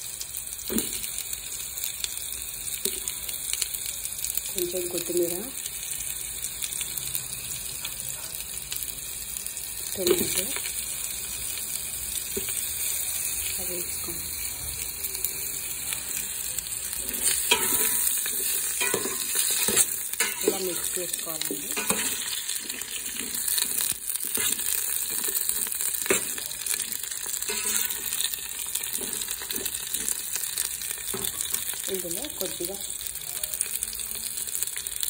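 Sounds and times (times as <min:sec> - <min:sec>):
vegetables sizzling in hot oil: 0:00.0 - 0:35.0.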